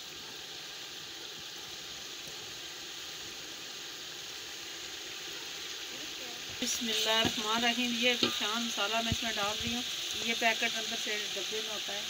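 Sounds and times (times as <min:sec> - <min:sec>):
chicken frying in a pot: 0:00.0 - 0:12.0.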